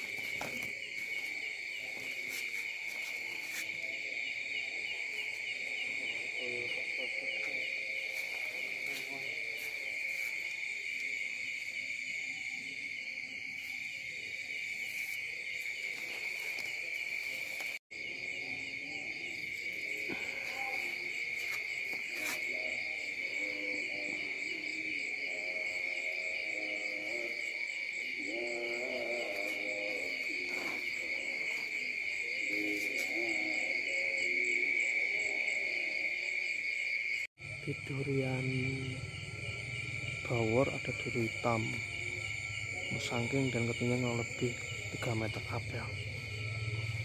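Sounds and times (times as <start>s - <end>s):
crickets trilling: 0.0s - 47.0s
wavering lower insect calls: 0.0s - 47.0s.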